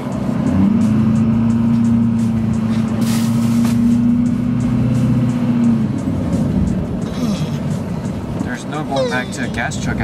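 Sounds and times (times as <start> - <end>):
diesel truck engine drone: 0.0 - 10.0.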